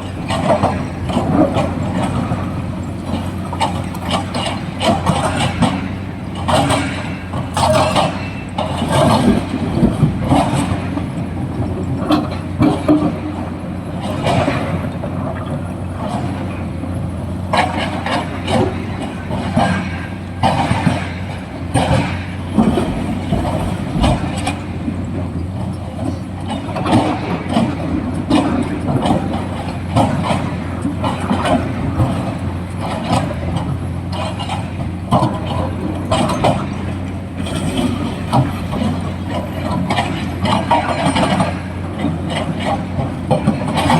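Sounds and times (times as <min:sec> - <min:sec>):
diesel excavator engine running: 0:00.0 - 0:43.9
digging knocks and clatter: 0:00.0 - 0:43.9.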